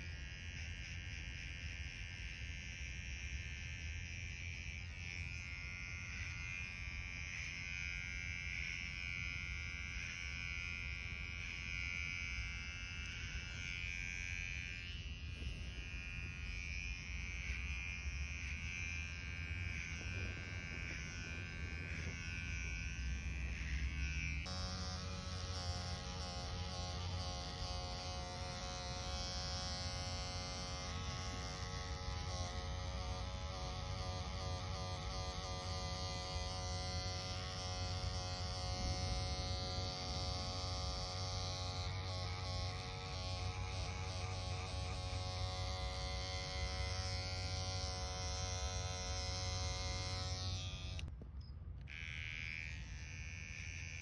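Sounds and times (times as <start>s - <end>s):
electric hair clipper buzzing: 0.0s - 51.1s, 51.8s - 54.0s.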